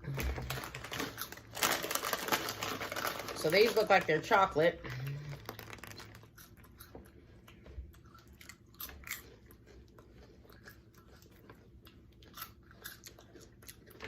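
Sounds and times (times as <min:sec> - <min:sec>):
crunching popcorn chewing: 0:00.0 - 0:14.0.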